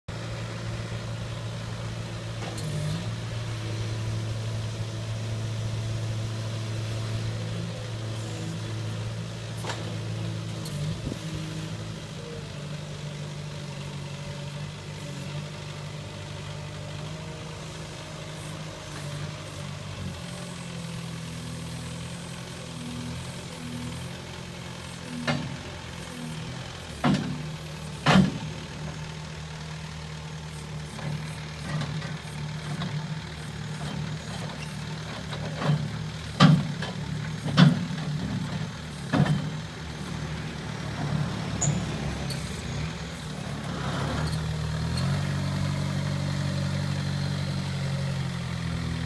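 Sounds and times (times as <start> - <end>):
forklift engine running: 0.1 - 49.0.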